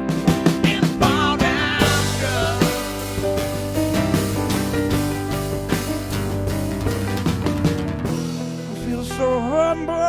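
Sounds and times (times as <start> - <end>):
drum kit beat: 0.0 - 9.6
guitar: 0.0 - 10.0.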